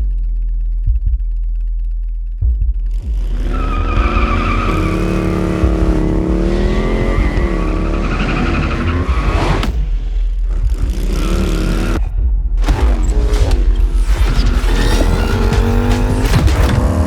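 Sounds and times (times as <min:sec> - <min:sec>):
motorcycle engine revving: 0:02.6 - 0:17.0.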